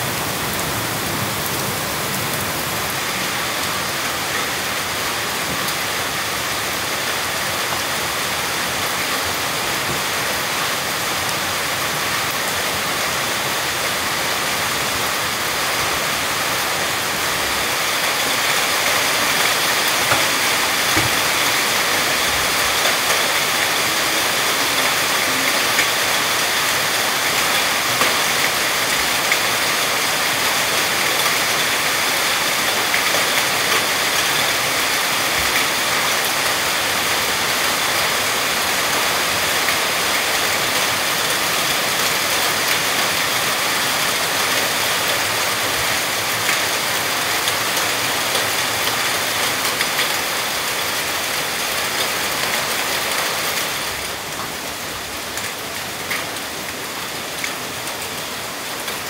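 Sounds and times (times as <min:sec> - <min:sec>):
heavy rain hiss: 0:00.0 - 0:59.0.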